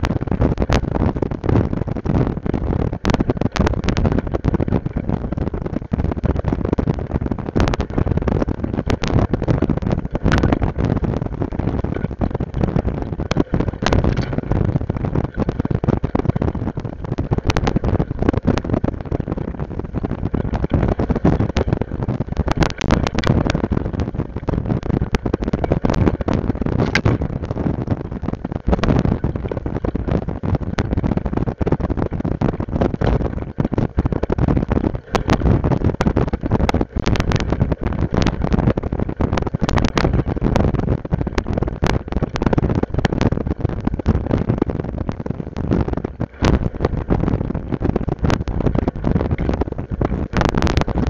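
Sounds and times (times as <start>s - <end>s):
small rattles and knocks: 0.0s - 51.0s
wind on microphone: 0.0s - 51.0s.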